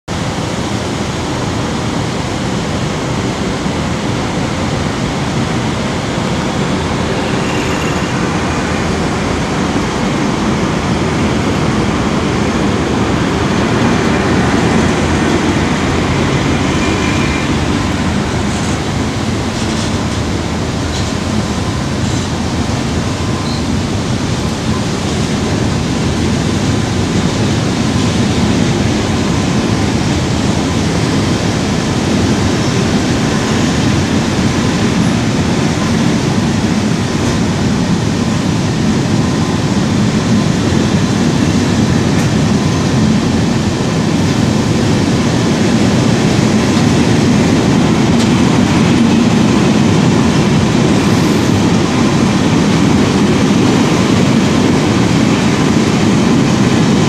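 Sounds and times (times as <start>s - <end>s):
train wheels on rails: 0.1s - 57.0s.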